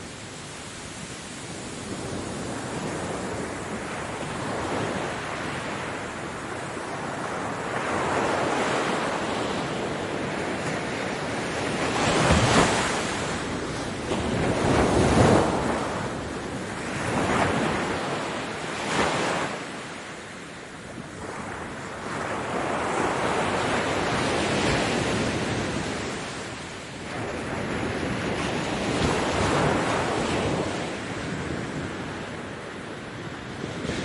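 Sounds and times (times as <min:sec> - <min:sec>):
ocean waves breaking on beach: 0:00.0 - 0:34.0.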